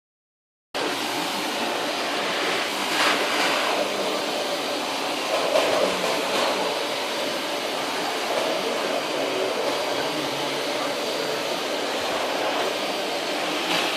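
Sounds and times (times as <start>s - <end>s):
vacuum cleaner running: 0.8s - 13.9s.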